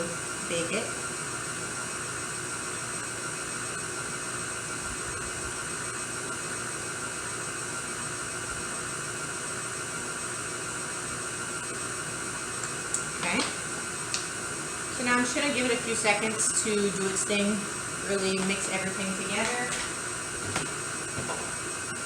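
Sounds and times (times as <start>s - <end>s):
stand mixer motor whirring: 0.0s - 22.0s.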